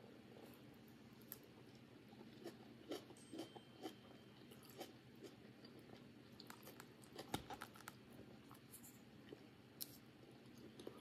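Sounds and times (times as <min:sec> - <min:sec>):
close-up chewing food: 0:00.3 - 0:11.0.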